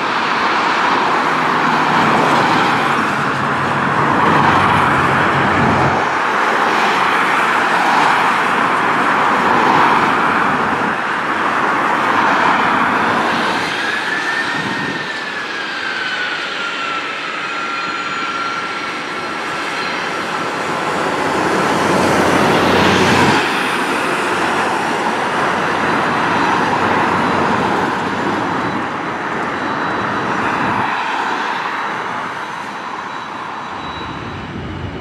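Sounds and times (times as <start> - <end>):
engine whine: 0.0 - 35.0
jet engine roar of landing plane: 0.0 - 35.0.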